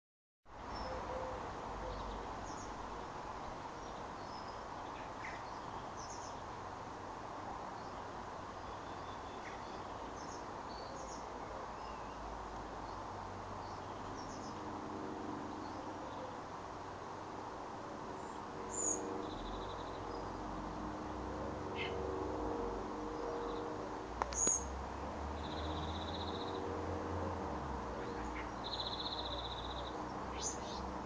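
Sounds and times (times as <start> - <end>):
outdoor ambience hiss: 0.5 - 31.0.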